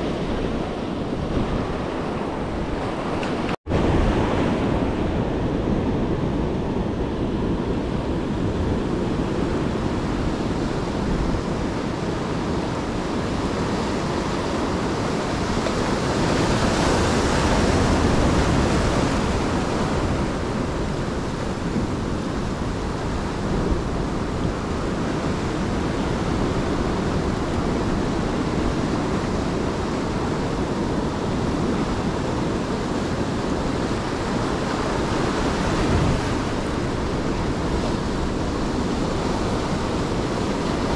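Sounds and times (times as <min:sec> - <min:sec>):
ocean surf washing onto beach: 0:00.0 - 0:40.9
wind rumbling on microphone: 0:00.0 - 0:40.9.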